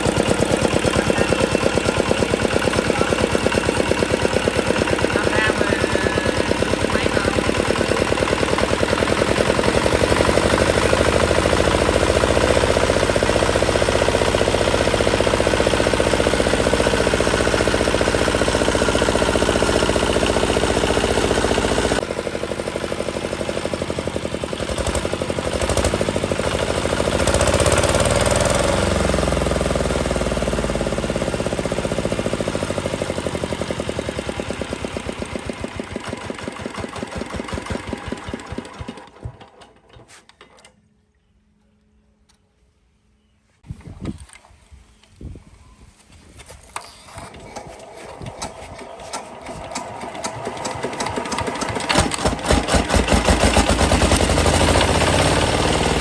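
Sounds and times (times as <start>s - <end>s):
diesel engine chugging: 0.0s - 39.8s, 47.3s - 56.0s.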